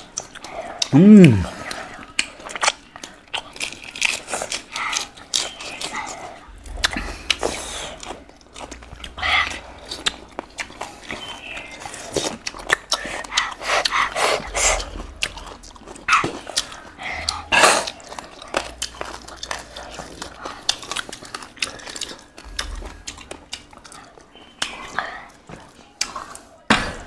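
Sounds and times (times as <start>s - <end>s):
chewing and lip-smacking: 0.0s - 26.8s.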